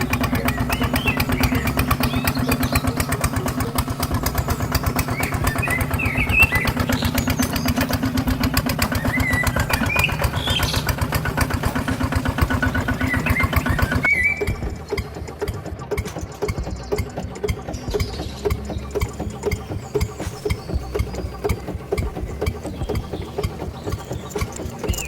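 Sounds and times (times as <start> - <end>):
small engine running steadily: 0.0 - 25.0.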